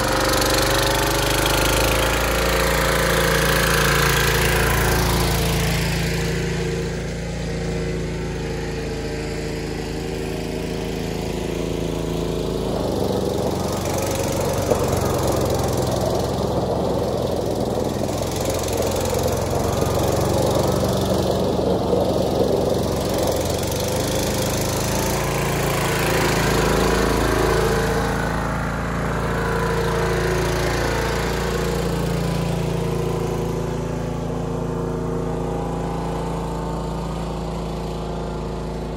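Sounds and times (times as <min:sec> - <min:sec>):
garden tractor engine running: 0:00.0 - 0:38.9.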